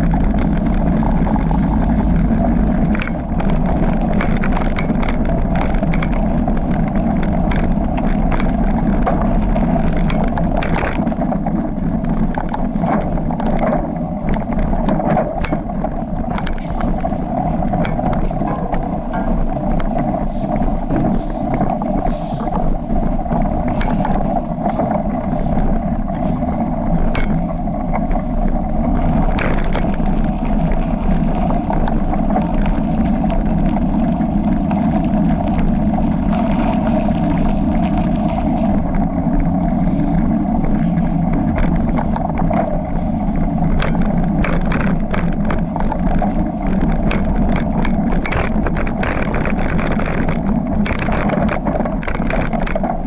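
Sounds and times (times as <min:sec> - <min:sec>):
bike rattling over rough ground: 0:00.0 - 0:53.0
tyres rumbling on dirt trail: 0:00.0 - 0:53.0
wind on microphone: 0:00.0 - 0:53.0.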